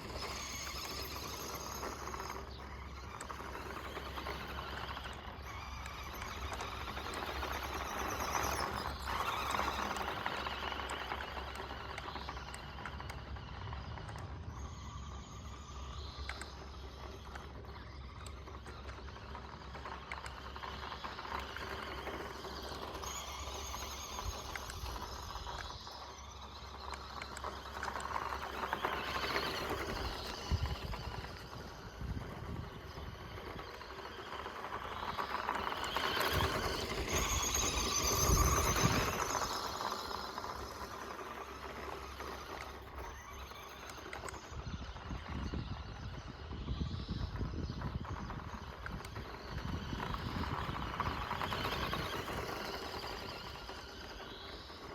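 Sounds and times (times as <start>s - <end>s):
rc car motor whine: 0.0s - 54.9s.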